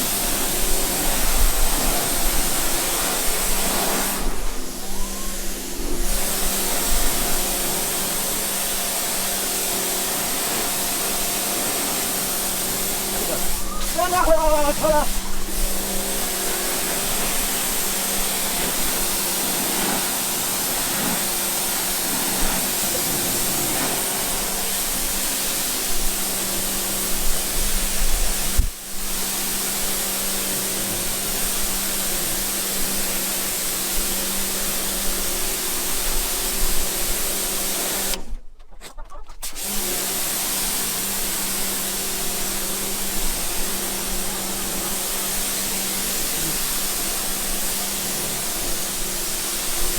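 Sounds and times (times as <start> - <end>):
water spray hissing: 0.0 - 38.2, 39.4 - 49.9
pressure washer motor hum: 0.0 - 38.4, 39.4 - 49.9.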